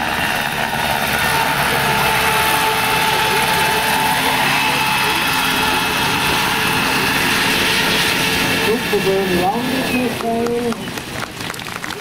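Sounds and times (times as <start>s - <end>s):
model helicopter rotor whine: 0.0s - 12.0s.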